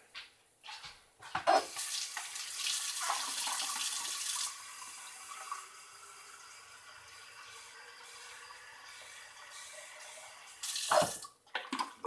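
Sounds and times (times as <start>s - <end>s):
kitchen tap running: 1.5s - 11.9s.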